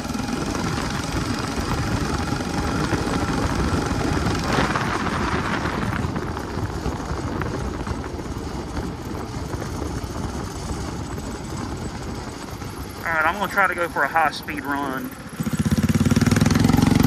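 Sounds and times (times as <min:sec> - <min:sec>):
engine running: 0:00.0 - 0:17.0
road noise: 0:00.0 - 0:17.0.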